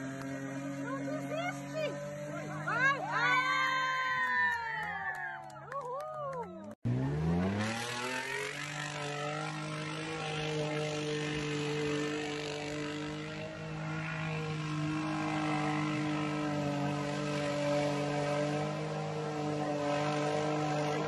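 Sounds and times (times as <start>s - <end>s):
car engine revving: 0.0s - 3.9s, 6.8s - 21.0s.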